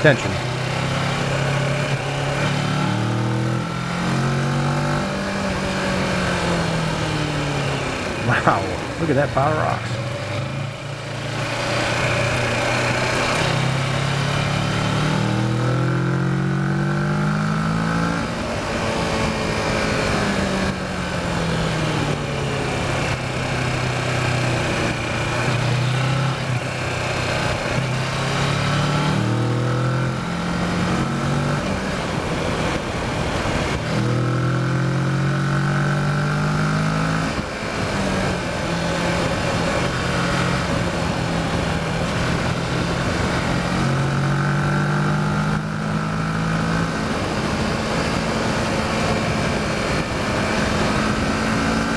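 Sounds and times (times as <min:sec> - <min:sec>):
motorcycle engine accelerating: 0:00.0 - 0:51.9
wind and road rush: 0:00.0 - 0:51.9.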